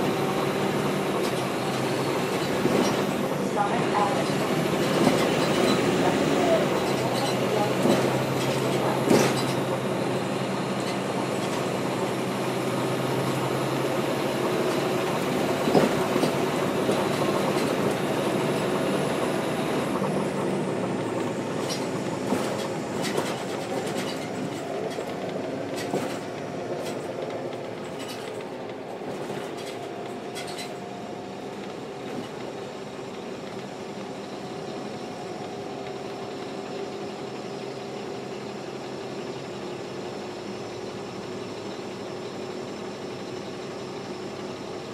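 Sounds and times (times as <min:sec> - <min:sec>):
bus diesel engine: 0:00.0 - 0:44.9
clicks and rattles from bus: 0:00.0 - 0:44.9.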